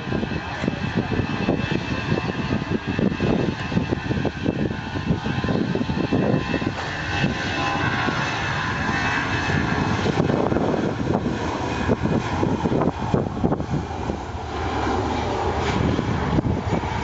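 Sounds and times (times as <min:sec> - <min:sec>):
faint engine whine: 0:00.0 - 0:17.0
fluttering low rumble: 0:00.0 - 0:17.0
jet engines roaring: 0:00.0 - 0:17.0.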